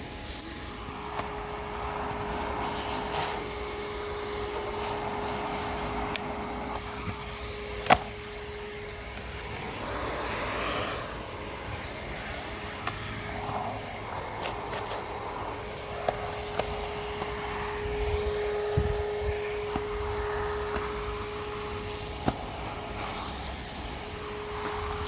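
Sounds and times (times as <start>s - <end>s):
vacuum cleaner humming: 0.0s - 25.0s.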